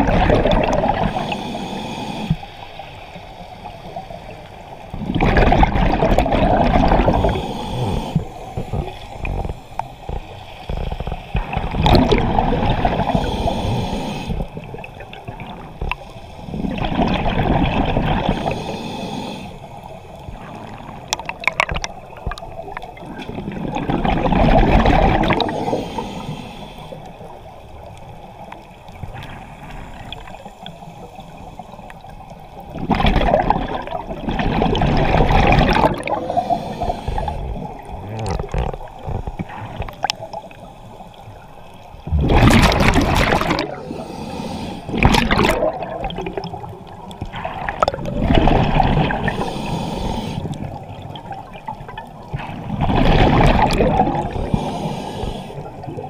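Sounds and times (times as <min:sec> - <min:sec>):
regulator bubbles gurgling: 0:00.0 - 0:01.5, 0:04.8 - 0:18.8, 0:20.0 - 0:30.8, 0:31.6 - 0:56.0
quiet underwater sound: 0:00.0 - 0:56.0.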